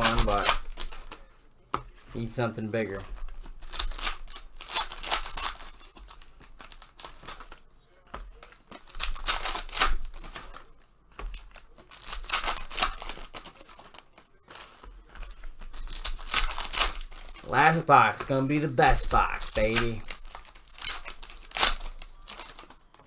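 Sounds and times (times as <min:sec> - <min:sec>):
plastic wrappers tearing and crinkling: 0:00.0 - 0:01.3, 0:03.0 - 0:23.0.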